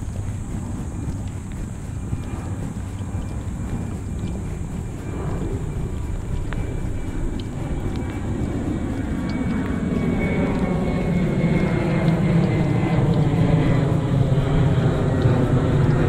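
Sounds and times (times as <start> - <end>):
faint high whine: 0.0 - 16.0
jet engine rumble: 0.0 - 16.0.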